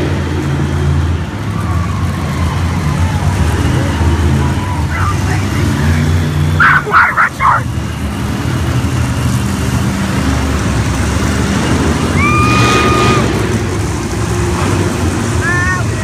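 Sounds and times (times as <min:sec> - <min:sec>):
truck engines idling: 0:00.0 - 0:16.0.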